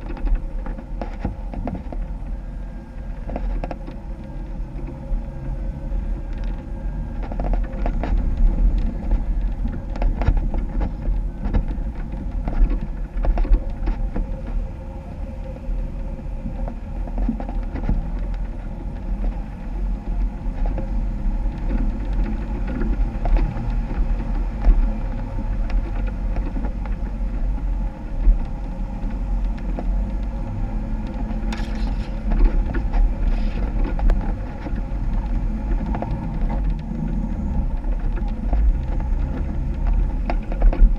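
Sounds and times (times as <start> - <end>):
engine low rumble: 0.0 - 40.9.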